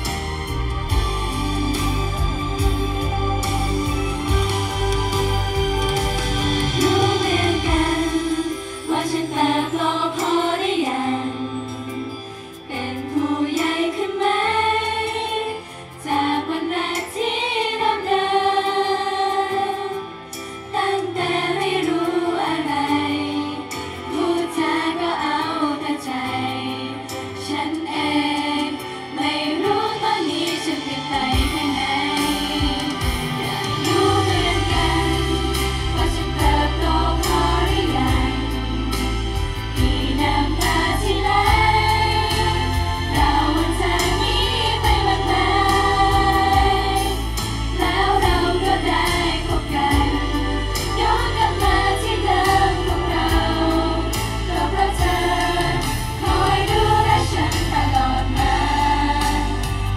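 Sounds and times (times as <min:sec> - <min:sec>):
group singing pop song: 0:00.0 - 0:59.9.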